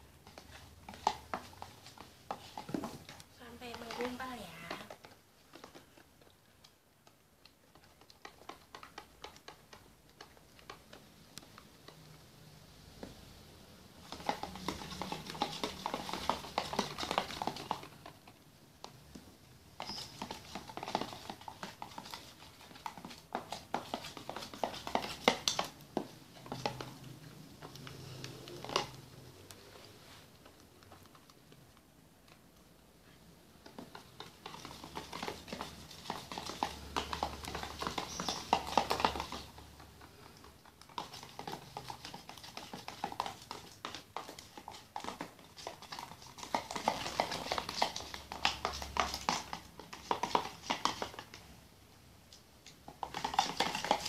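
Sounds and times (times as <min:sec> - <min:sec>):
spoons scraping plastic containers: 0:00.0 - 0:06.7, 0:07.4 - 0:12.2, 0:14.0 - 0:31.7, 0:33.0 - 0:51.7, 0:52.3 - 0:54.0
spoons stirring slime: 0:00.0 - 0:54.0.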